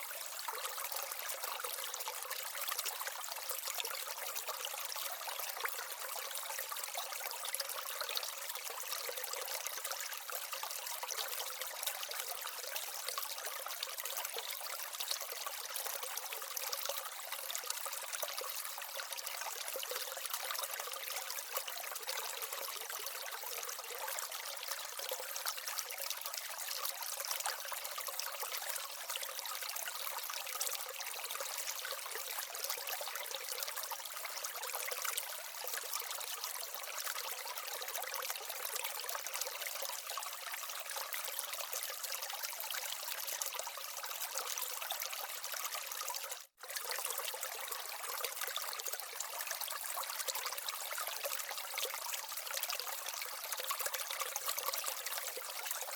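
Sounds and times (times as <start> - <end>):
water trickling down small waterfall: 0.0 - 55.9.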